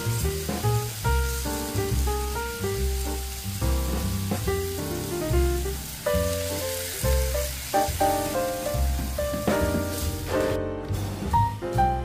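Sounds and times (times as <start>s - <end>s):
food sizzling in a frying pan: 0.0s - 11.6s.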